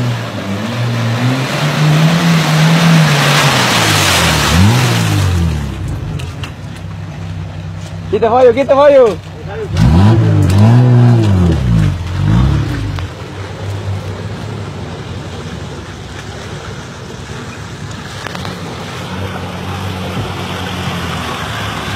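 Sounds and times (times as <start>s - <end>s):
truck engine revving: 0.0s - 8.2s, 8.8s - 21.9s.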